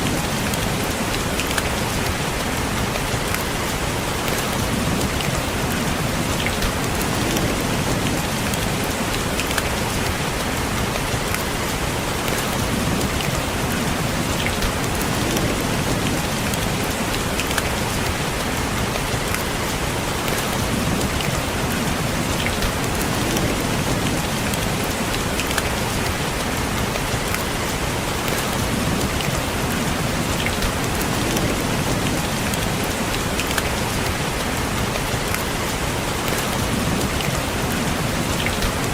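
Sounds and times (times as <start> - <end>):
raindrops tapping on a window: 0.0 - 38.9.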